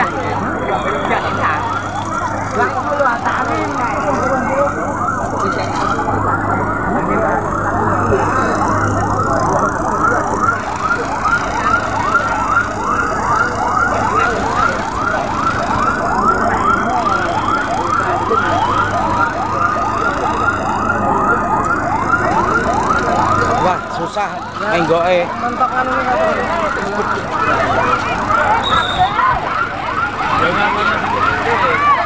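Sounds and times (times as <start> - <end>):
siren yelping: 0.0 - 32.0
steady siren tone: 0.0 - 32.0.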